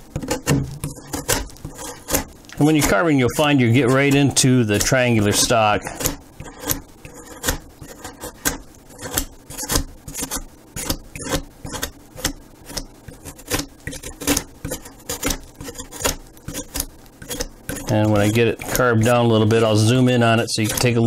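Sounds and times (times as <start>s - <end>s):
blade cutting wood: 0.0s - 21.0s.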